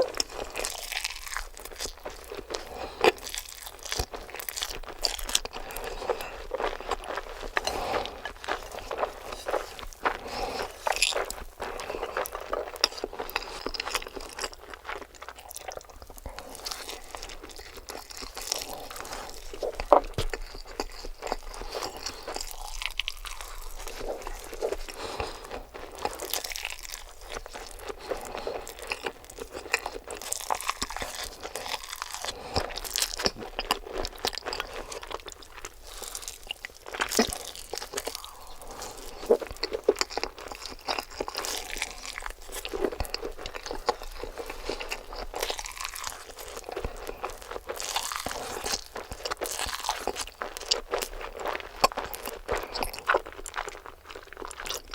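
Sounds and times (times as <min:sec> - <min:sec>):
crunchy chewing and biting: 0:00.0 - 0:54.9.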